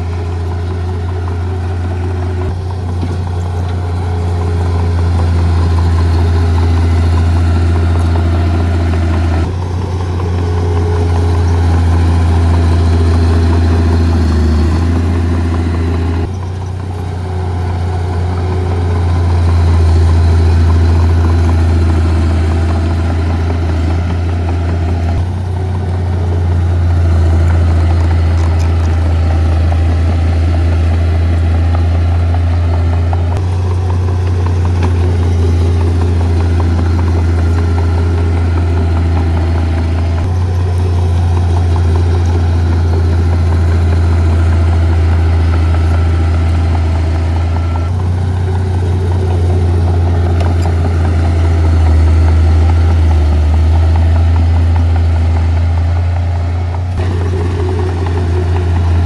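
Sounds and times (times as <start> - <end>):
heavy machinery diesel engines: 0.0 - 59.0.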